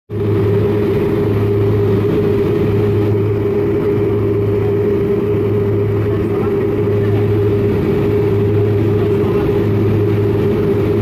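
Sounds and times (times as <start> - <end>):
propeller plane cabin drone: 0.1 - 11.0.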